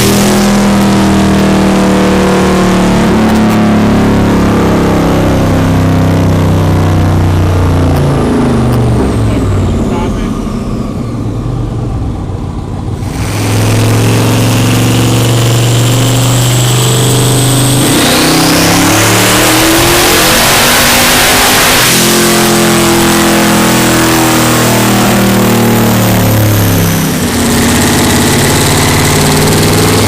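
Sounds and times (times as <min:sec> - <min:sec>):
car engine running hard: 0:00.0 - 0:30.0
high turbo whine: 0:00.0 - 0:30.0.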